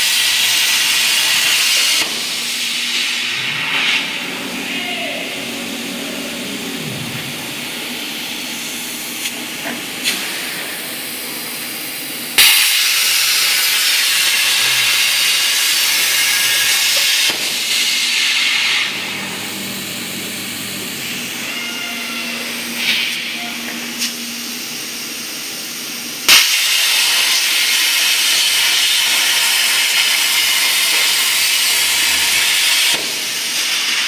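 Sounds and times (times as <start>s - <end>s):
plasma cutting torch hissing: 0.0s - 4.8s, 5.5s - 34.0s.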